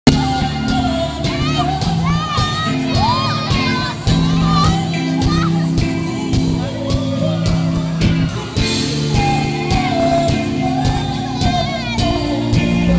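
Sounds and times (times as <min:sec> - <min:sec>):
live band playing pop-rock: 0:00.0 - 0:12.9
audience screaming and cheering: 0:00.1 - 0:12.9.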